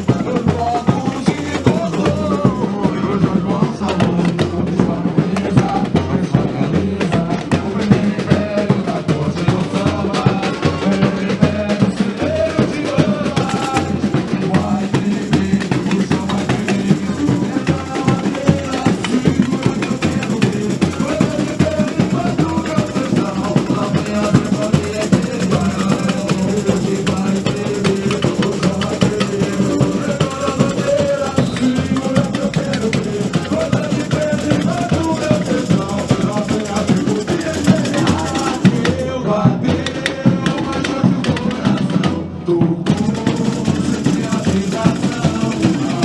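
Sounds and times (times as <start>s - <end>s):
deep bass drum beats: 0.0s - 46.0s
samba drum section playing: 0.0s - 46.0s.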